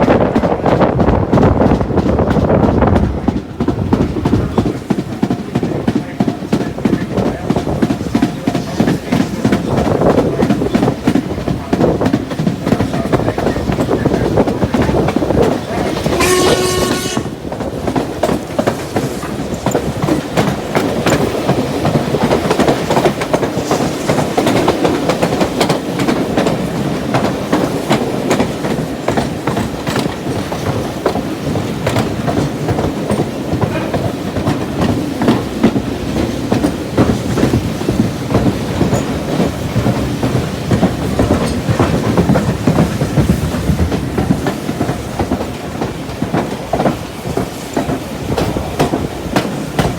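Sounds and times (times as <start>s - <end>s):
train wheels rumbling on rail: 0.0s - 49.9s
wheels clacking over rail joints: 0.0s - 49.9s.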